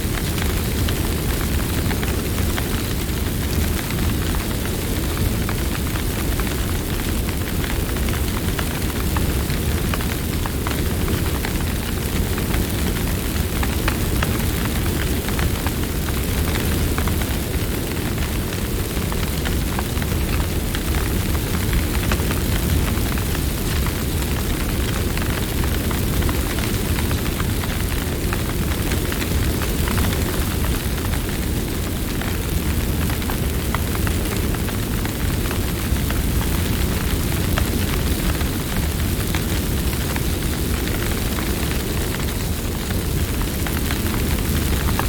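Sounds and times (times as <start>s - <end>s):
fire crackles and pops: 0.0s - 45.0s
low rumble of flames: 0.0s - 45.0s.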